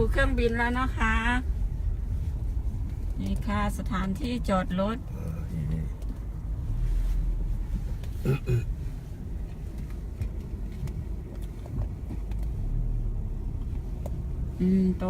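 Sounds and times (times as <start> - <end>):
car rumbling slowly: 0.0 - 15.0.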